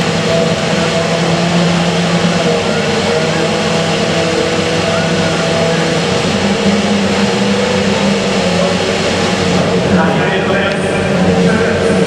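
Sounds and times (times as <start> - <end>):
racing car engines humming: 0.0 - 12.0.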